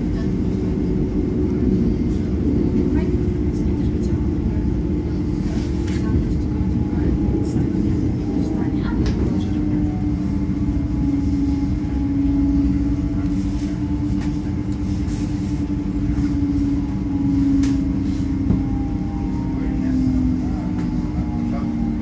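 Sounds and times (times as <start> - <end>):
low wavering hum: 0.0 - 22.0
train rumbling on rails: 0.0 - 22.0.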